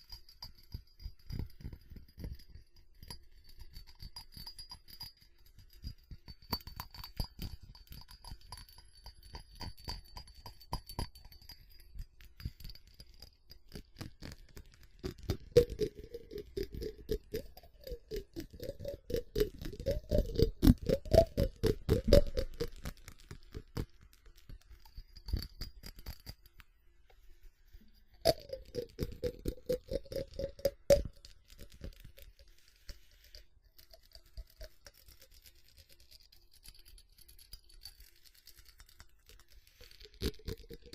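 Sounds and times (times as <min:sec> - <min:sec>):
fast tapping on ceramic: 0:00.0 - 0:26.7, 0:28.0 - 0:40.9.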